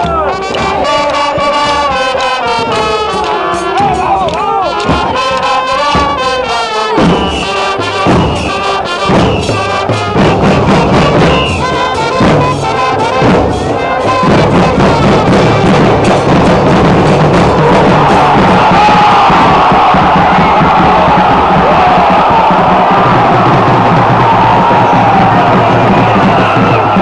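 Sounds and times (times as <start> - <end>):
bass drums beating: 0.0 - 6.4, 7.0 - 27.0
brass horns playing: 0.0 - 26.0.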